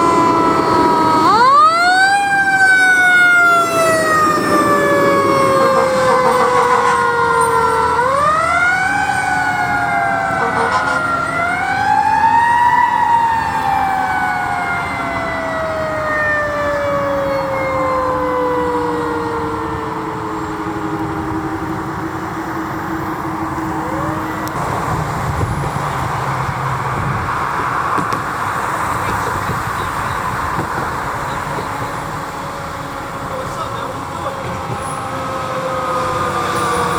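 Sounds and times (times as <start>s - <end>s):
fire engine siren wailing: 0.0s - 36.9s
vehicle engine and road noise: 0.0s - 36.9s.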